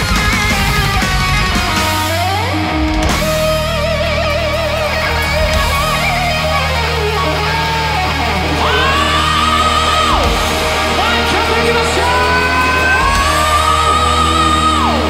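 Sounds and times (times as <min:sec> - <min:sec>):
heavy metal band playing: 0:00.0 - 0:15.0
low bass drone: 0:00.0 - 0:15.0
high sliding held notes: 0:02.1 - 0:15.0.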